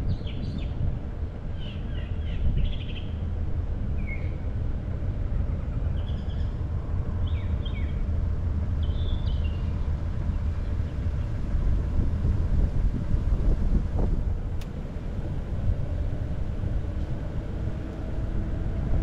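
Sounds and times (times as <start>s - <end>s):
car driving rumble: 0.0s - 19.0s
wind noise on microphone: 0.0s - 19.0s.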